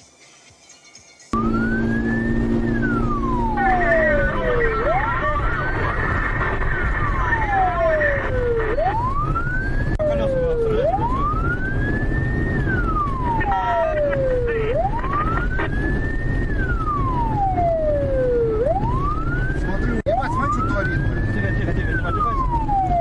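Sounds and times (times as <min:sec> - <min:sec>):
rumble of road traffic: 0:00.0 - 0:23.0
police siren wailing: 0:01.4 - 0:23.0.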